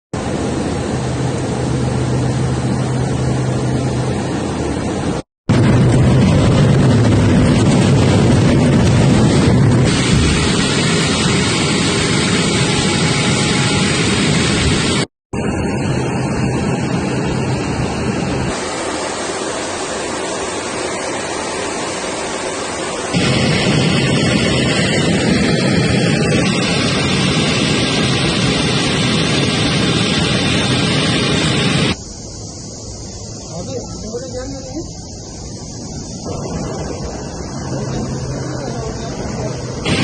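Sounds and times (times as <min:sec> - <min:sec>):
rushing air: 0:00.2 - 0:33.6, 0:34.8 - 0:40.0
aircraft engines roaring: 0:00.2 - 0:40.0.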